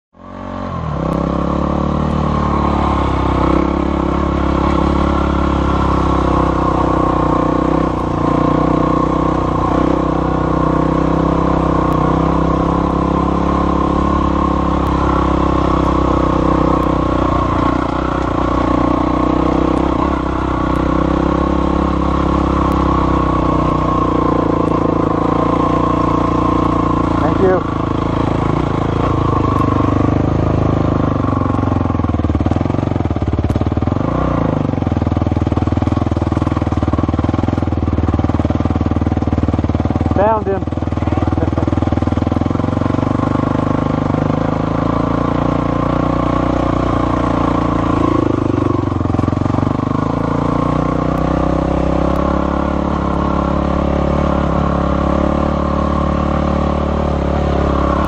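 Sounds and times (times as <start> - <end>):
atv engine running: 0.1 - 58.0.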